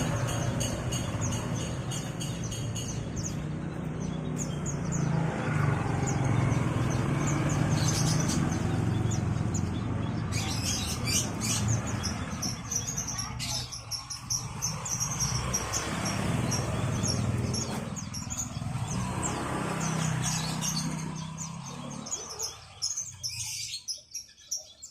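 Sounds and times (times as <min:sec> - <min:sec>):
songbirds chirping and twittering: 0:00.0 - 0:24.9.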